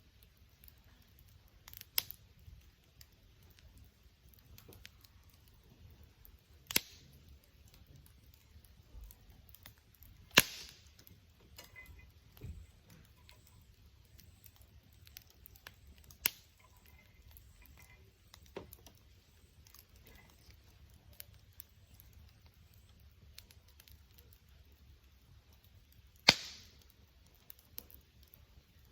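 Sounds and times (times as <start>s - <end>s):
campfire crackling: 0.0s - 28.9s
sharp fire pops: 0.6s - 28.9s.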